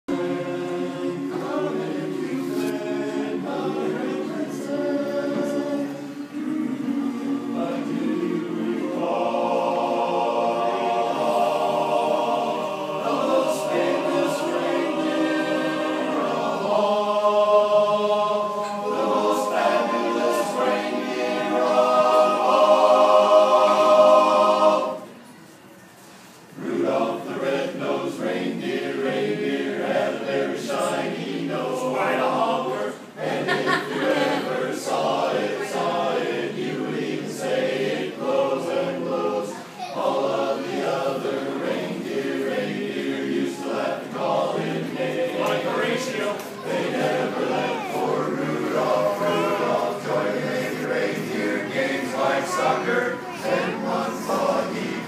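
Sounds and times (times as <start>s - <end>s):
choir singing held chords: 0.0s - 25.3s, 26.5s - 55.0s.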